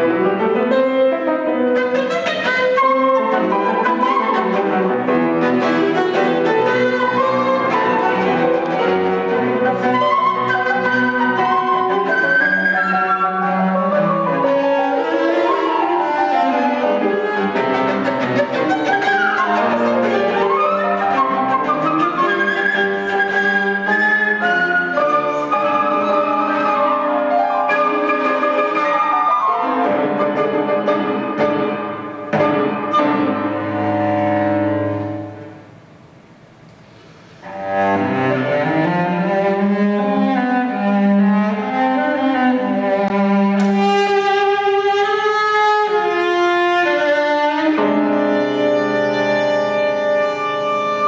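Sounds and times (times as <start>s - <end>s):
flute cello and piano trio: 0.0s - 35.9s, 37.3s - 51.0s.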